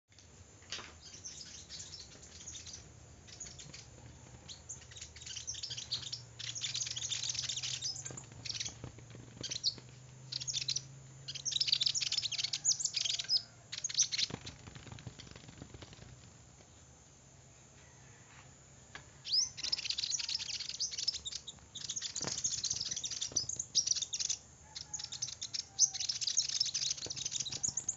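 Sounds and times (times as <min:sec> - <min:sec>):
small bird twittering: 0:01.0 - 0:16.1, 0:19.2 - 0:27.9.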